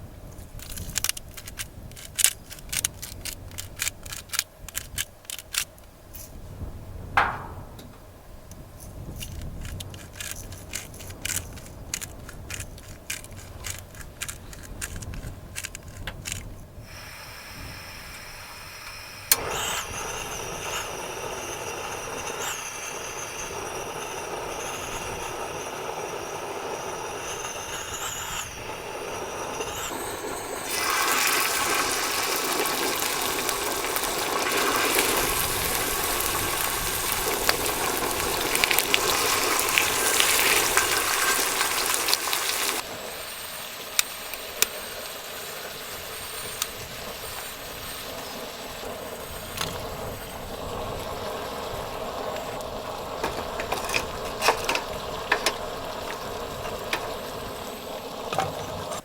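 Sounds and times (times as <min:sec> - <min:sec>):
steady rushing hiss: 0:00.0 - 0:59.0.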